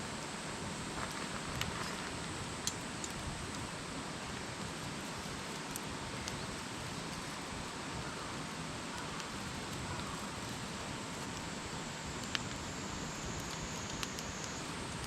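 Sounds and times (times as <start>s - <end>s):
campfire crackling and popping: 1.0s - 8.1s, 8.8s - 15.0s.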